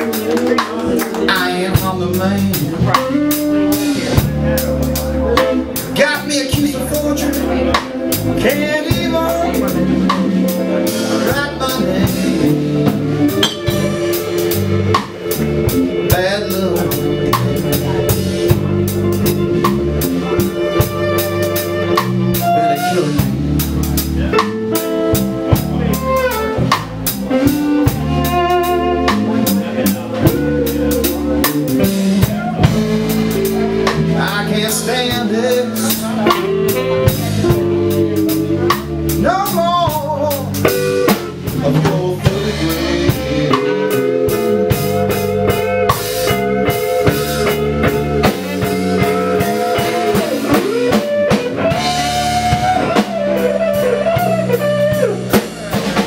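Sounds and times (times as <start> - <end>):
saxophone: 0.0 - 6.4, 7.0 - 34.3, 35.4 - 56.0
bass guitar: 0.0 - 56.0
drum kit beat: 0.0 - 56.0
electric guitar: 0.0 - 56.0.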